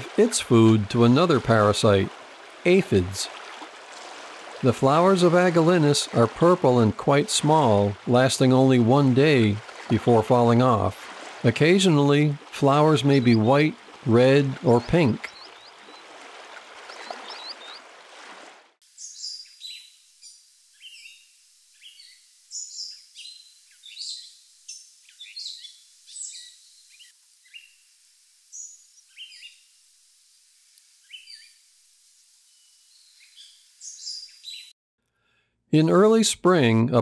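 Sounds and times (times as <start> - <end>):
songbirds chirping: 0.0 - 29.8, 30.8 - 31.6, 32.4 - 34.7.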